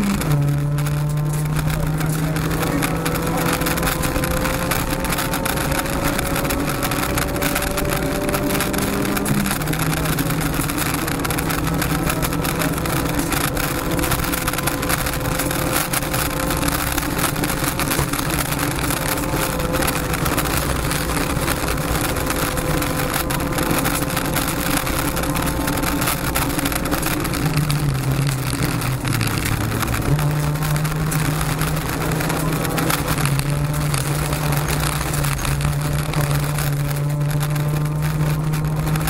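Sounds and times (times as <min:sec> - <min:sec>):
car engine running hard: 0:00.0 - 0:39.0
tyre and road noise: 0:00.0 - 0:39.0.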